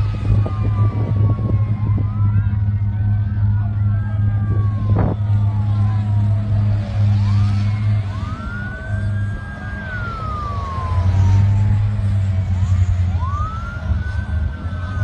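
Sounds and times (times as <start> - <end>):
emergency sirens wailing: 0.0 - 15.0
low engine rumble: 0.0 - 15.0.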